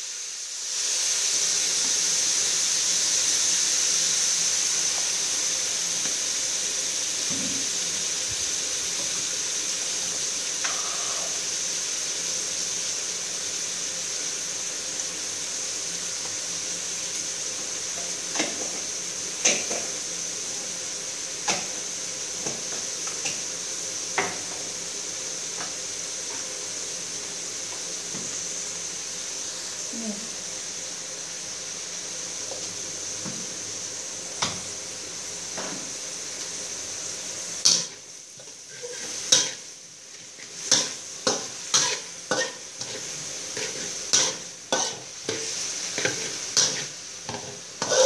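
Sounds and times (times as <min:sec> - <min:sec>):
pork sizzling in a wok: 0:00.0 - 0:48.0.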